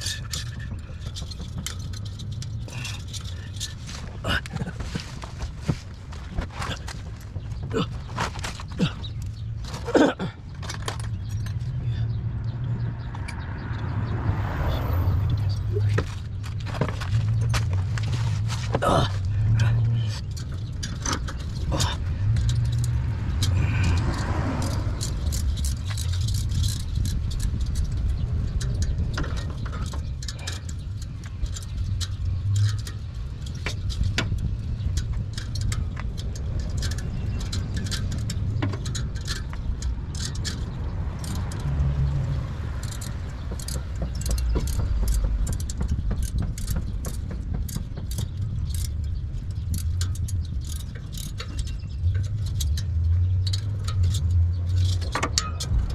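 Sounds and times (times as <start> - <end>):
metal tools clinking and rattling: 0.0 - 12.2, 14.6 - 55.9
steady low rumble: 0.0 - 55.9.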